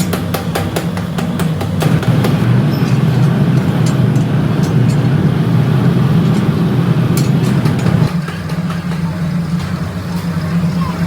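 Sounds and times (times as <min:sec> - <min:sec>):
heavy machinery humming: 0:00.0 - 0:11.0.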